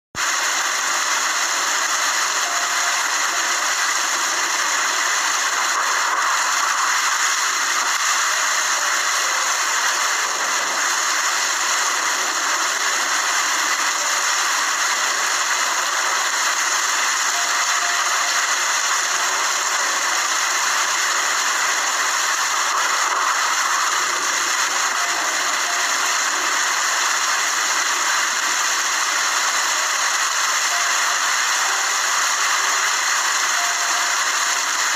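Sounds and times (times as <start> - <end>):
rain hiss: 0.2 - 34.9.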